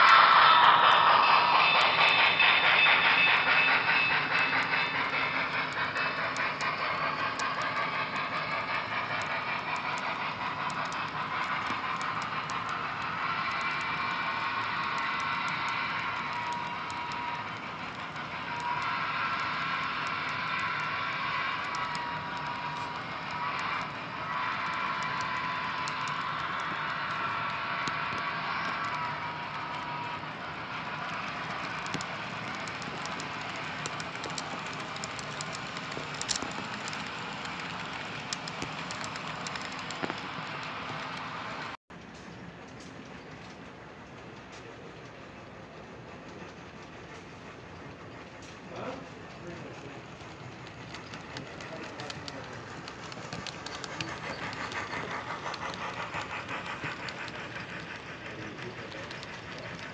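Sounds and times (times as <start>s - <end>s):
model train cars rolling on track: 0.0s - 59.9s.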